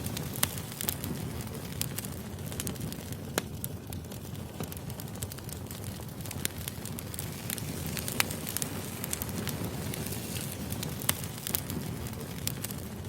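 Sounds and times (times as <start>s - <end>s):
firewood crackling and popping: 0.0s - 13.0s.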